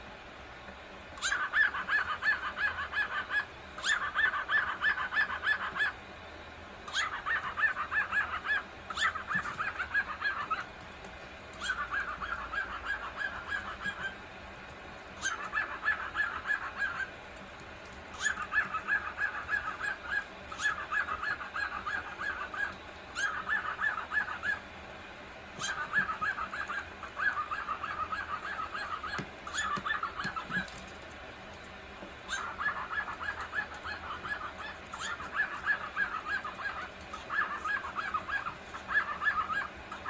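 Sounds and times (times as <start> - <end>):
cockatiel chattering chirps: 1.2 - 6.0, 6.9 - 10.8, 11.5 - 14.2, 15.1 - 17.3, 18.1 - 24.7, 25.6 - 30.9, 32.3 - 40.0.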